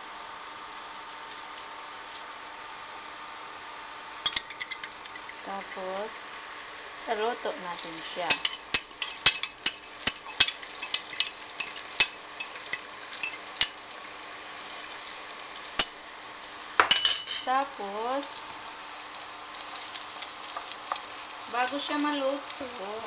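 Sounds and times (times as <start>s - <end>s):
egg sizzling in butter: 0.0s - 23.0s.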